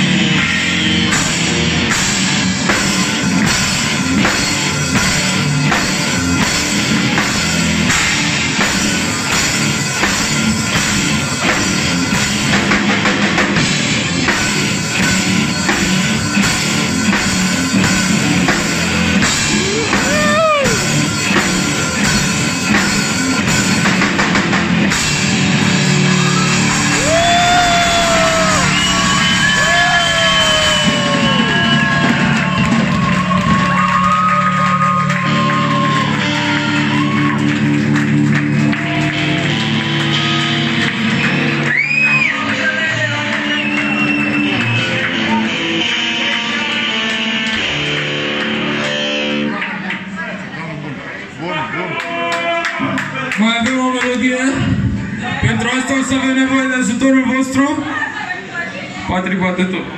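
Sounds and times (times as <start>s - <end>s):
heavy metal band playing live: 0.0s - 49.7s.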